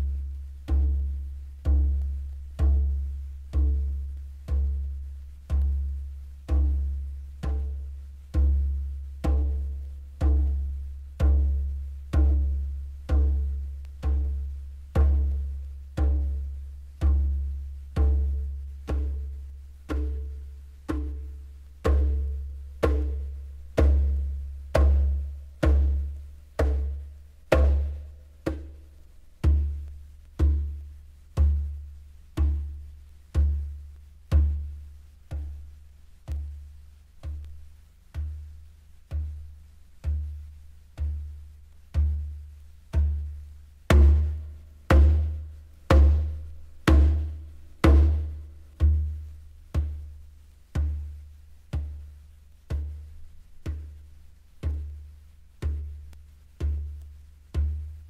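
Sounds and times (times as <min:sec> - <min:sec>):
slow deep drum beat: 0:00.0 - 0:58.0.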